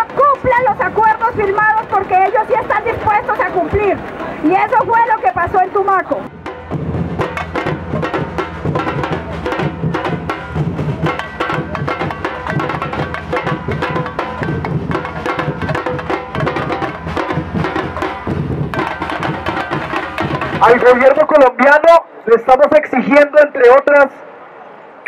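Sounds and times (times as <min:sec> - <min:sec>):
marching snare and tenor drums: 0:00.0 - 0:21.5.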